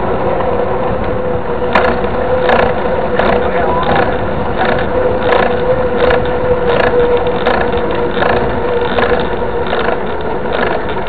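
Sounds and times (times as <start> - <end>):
bike tyre hum on asphalt: 0.0 - 11.0.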